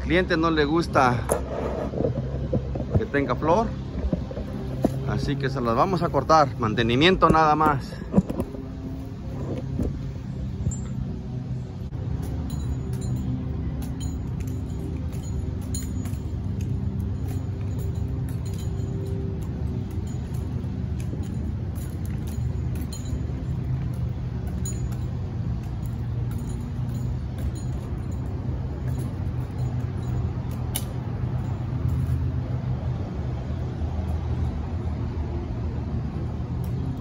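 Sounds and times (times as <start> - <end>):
engine running: 0.9 - 37.0.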